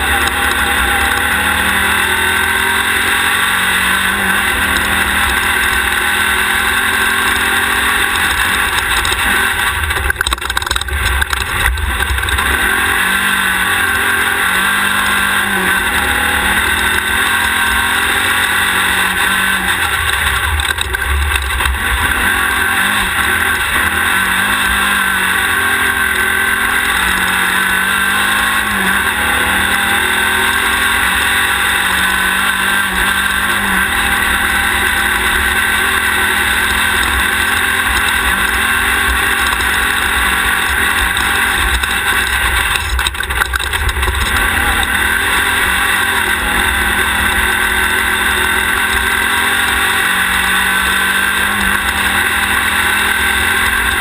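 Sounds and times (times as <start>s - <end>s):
buggy engine running hard: 0.0s - 54.0s
terrain noise: 0.0s - 54.0s
wind: 0.0s - 54.0s.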